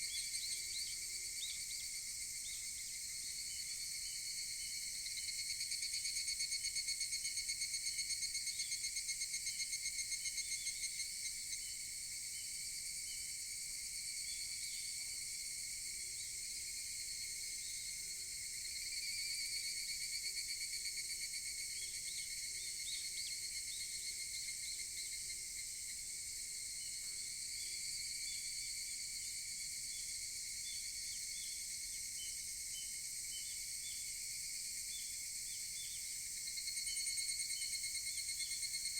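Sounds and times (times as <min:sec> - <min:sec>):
high chorus of insects: 0:00.1 - 0:38.9.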